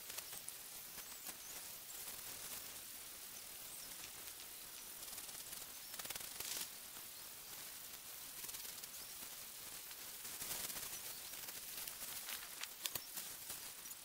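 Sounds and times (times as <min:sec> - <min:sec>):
steady high hiss: 0:00.0 - 0:14.0
tent fabric rustling and crinkling: 0:00.0 - 0:14.0.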